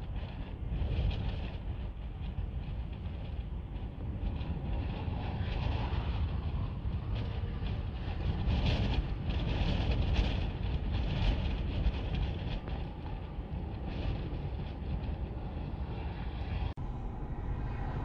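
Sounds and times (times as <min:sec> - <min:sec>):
strong gusting wind on microphone: 0:00.0 - 0:18.0.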